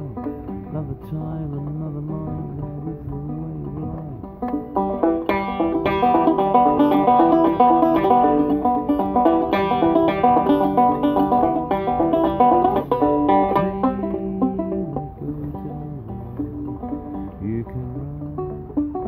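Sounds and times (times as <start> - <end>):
zither banjo playing: 0.0 - 19.0.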